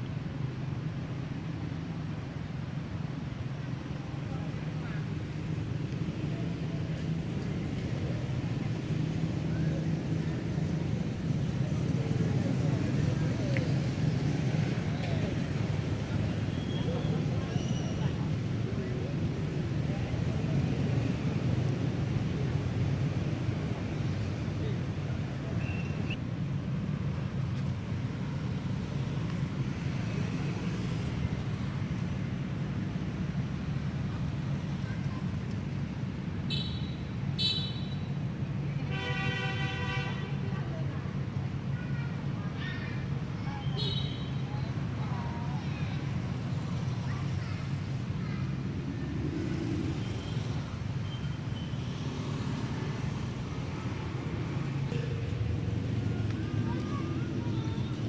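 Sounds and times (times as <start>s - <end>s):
traffic engine rumble: 0.0s - 58.0s.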